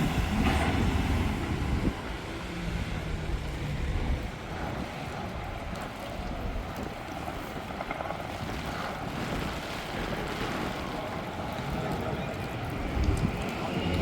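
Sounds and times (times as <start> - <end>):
low engine rumble: 0.0 - 14.0
wind buffeting microphone: 0.0 - 14.0.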